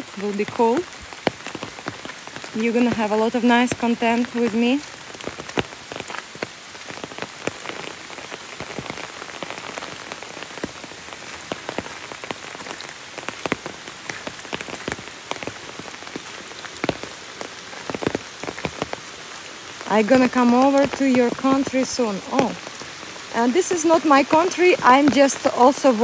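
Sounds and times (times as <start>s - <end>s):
rain hiss: 0.0s - 26.0s
raindrops tapping: 0.0s - 26.0s.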